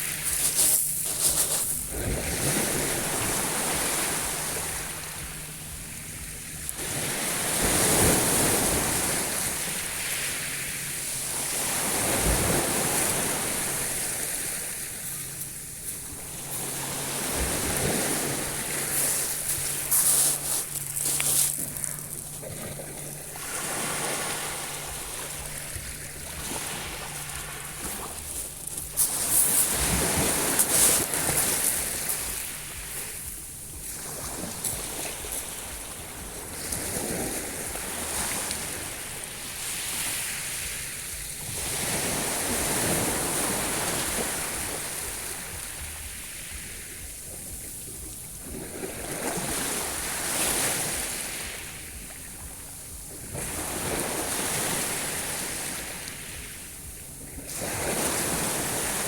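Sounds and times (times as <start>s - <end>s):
sea waves washing in: 0.0s - 59.0s.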